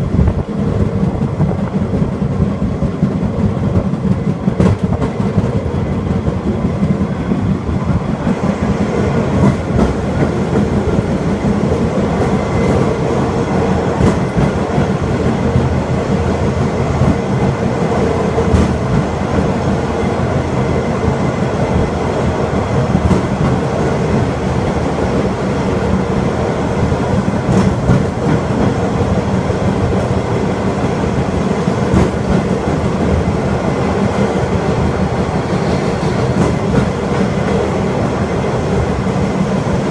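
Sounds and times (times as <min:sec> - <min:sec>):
wheels rumbling on rail: 0:00.0 - 0:39.9.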